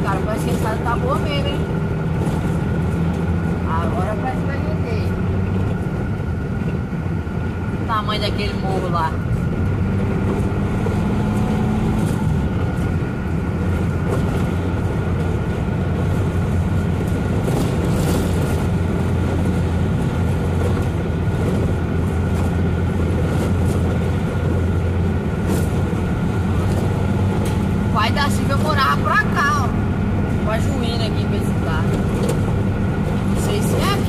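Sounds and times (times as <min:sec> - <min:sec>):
truck engine droning: 0:00.0 - 0:34.0
truck rattling and clattering: 0:00.0 - 0:34.0.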